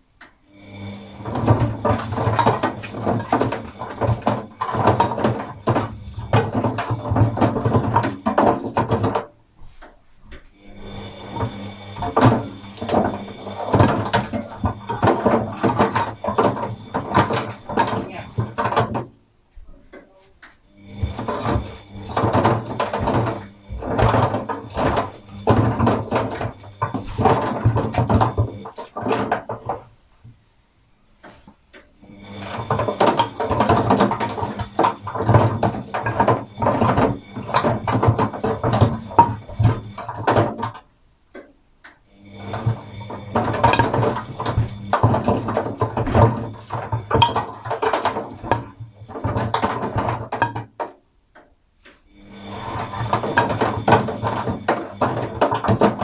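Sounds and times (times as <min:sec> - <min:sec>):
washing machine drum turning: 0:00.0 - 0:30.4, 0:31.2 - 0:56.0
steady motor hum: 0:00.4 - 0:09.2, 0:10.3 - 0:19.0, 0:20.7 - 0:29.8, 0:31.7 - 0:50.6, 0:51.9 - 0:56.0
rollers and brushes clattering: 0:01.0 - 0:10.1, 0:10.7 - 0:30.4, 0:31.0 - 0:41.5, 0:42.3 - 0:56.0.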